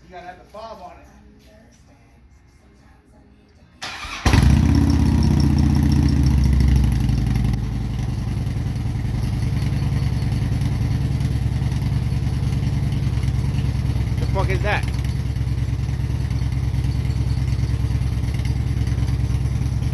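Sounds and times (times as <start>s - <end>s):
motorcycle engine starting and idling: 3.8s - 19.9s.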